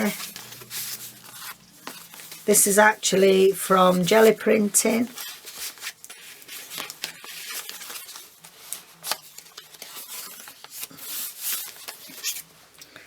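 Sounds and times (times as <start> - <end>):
paper rustling: 0.0 - 12.8.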